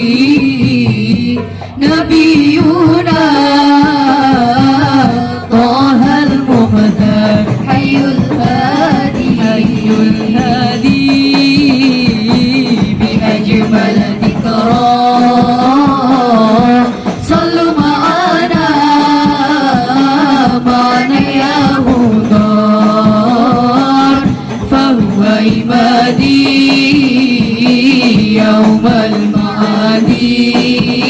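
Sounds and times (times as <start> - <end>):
percussion: 0.0 - 31.0
woman singing devotional song: 0.0 - 31.0.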